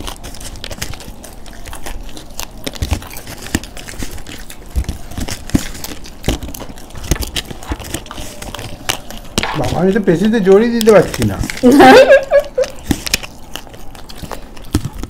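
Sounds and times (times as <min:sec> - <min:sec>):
crisp food crunching: 0:00.0 - 0:15.0.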